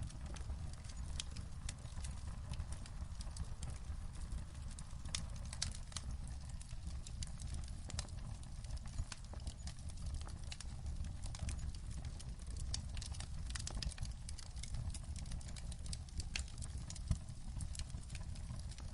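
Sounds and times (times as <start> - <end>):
low fire rumble: 0.0 - 18.9
wood fire crackling: 0.0 - 18.9.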